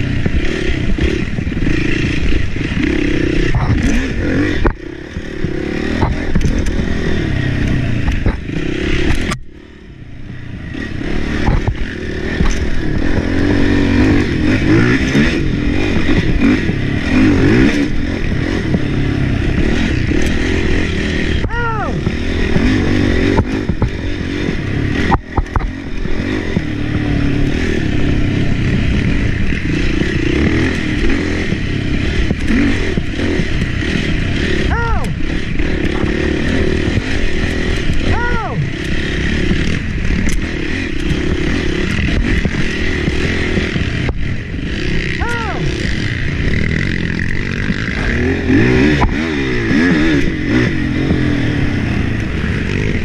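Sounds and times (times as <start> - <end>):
chassis clattering over bumps: 0.0 - 9.5, 10.2 - 53.0
atv engine revving: 0.0 - 53.0.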